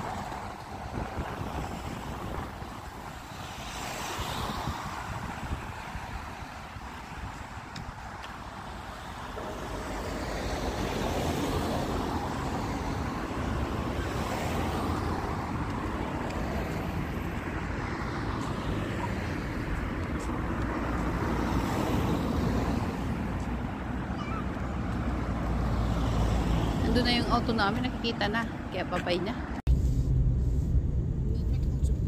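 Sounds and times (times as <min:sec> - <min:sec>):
low traffic rumble: 0:00.0 - 0:32.0
vehicles passing: 0:00.0 - 0:32.0.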